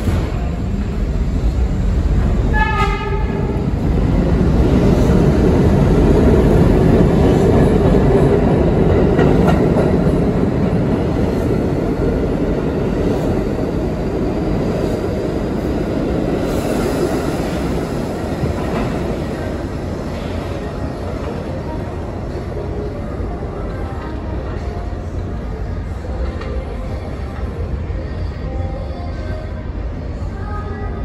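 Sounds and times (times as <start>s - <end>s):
subway train wheels rumbling: 0.0s - 31.0s.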